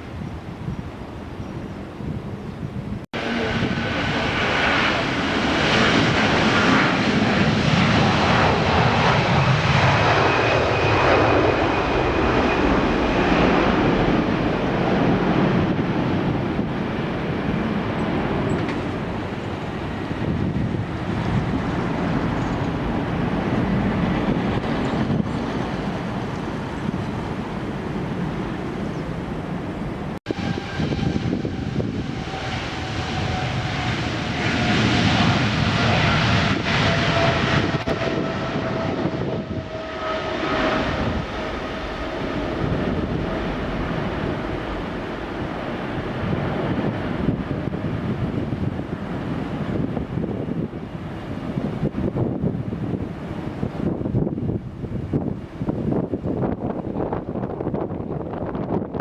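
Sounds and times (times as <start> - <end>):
jet airliner engines roaring: 0.0 - 59.0.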